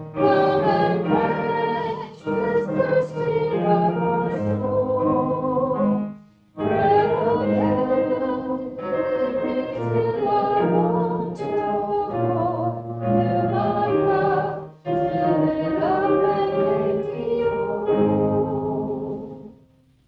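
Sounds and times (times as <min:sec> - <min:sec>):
musical accompaniment: 0:00.0 - 0:20.0
voices singing church music: 0:00.0 - 0:20.0.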